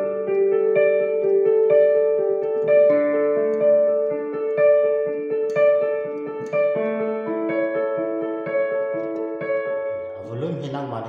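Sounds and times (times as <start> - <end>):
digital piano playing slow chords: 0.0 - 11.0.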